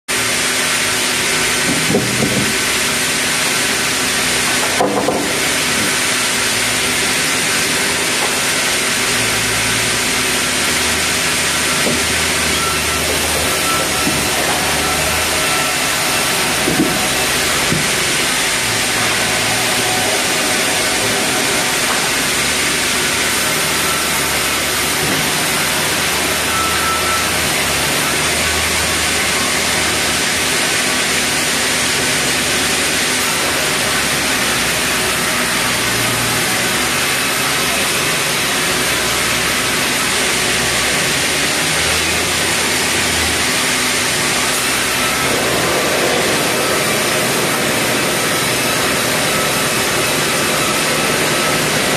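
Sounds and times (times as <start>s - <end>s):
sawmill machinery hissing and humming: 0.1s - 51.9s.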